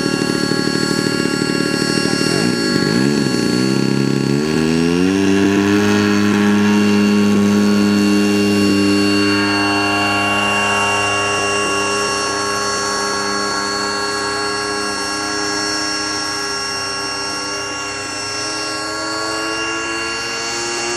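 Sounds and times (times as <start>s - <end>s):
model plane engine drone: 0.0s - 20.9s.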